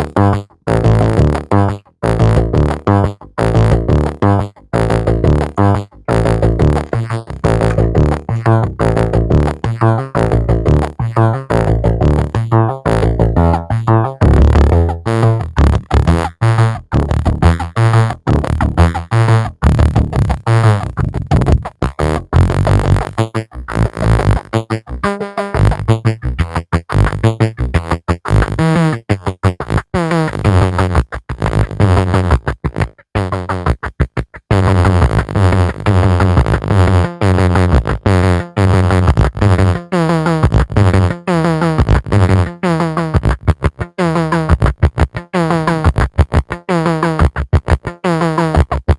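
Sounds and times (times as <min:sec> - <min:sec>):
heavy bass line: 0:00.0 - 0:48.9.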